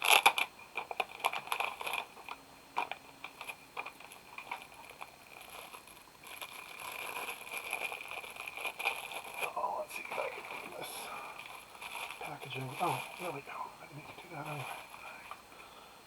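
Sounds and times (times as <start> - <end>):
packaging crinkling and rustling: 0.0 - 15.4.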